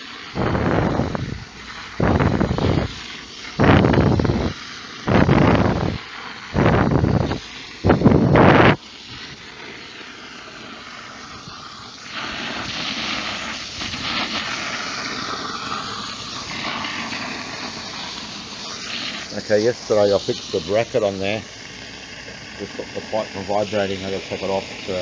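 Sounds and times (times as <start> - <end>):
water jetting from hose nozzle: 0.0 - 25.0.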